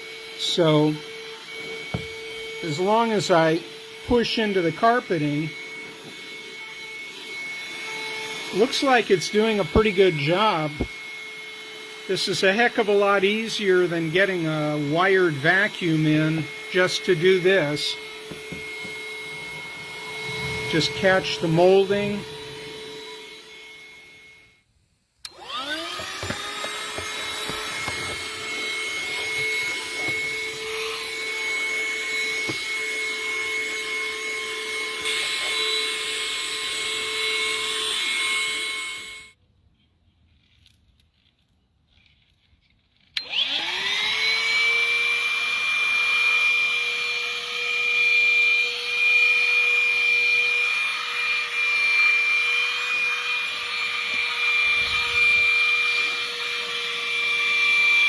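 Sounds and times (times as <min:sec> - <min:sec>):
handheld vacuum cleaner whine: 0:00.0 - 0:39.4, 0:43.0 - 0:58.0.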